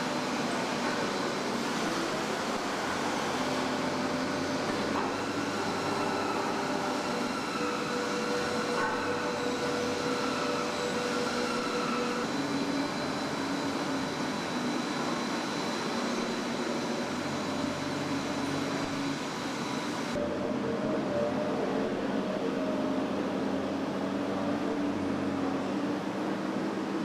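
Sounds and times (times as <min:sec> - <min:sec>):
machinery humming: 0:00.0 - 0:27.0.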